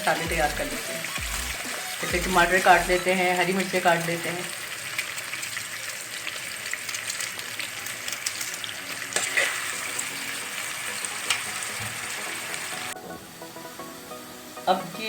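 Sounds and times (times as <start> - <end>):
onion sizzling in a pan: 0.0 - 15.0.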